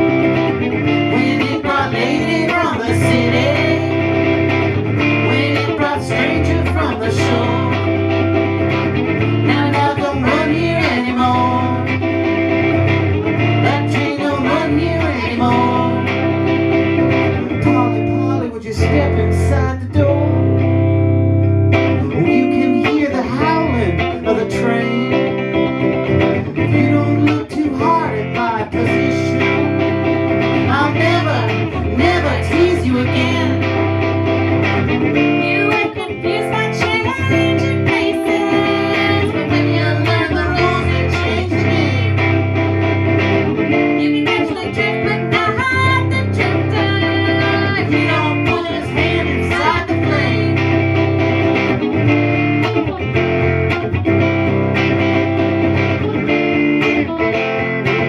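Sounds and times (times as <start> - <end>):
country folk guitars: 0.0 - 58.0.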